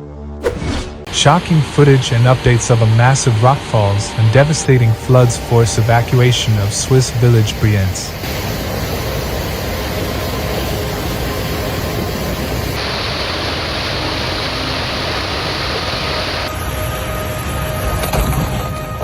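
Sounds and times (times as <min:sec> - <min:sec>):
floodwater rushing: 0:00.4 - 0:16.5.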